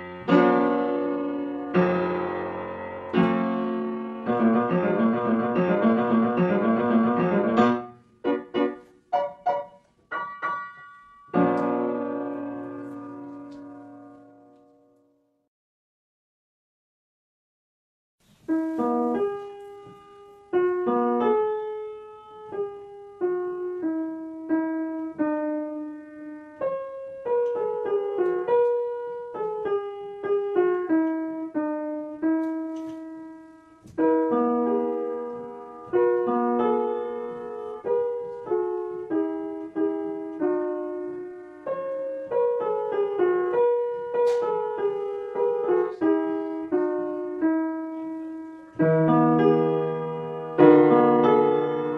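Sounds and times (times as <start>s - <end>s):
piano melody: 0.0s - 15.5s, 18.2s - 51.9s.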